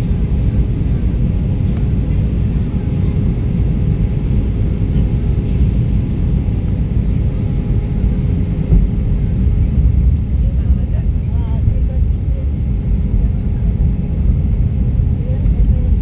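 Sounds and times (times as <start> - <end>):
airliner engines rumbling: 0.0 - 16.0.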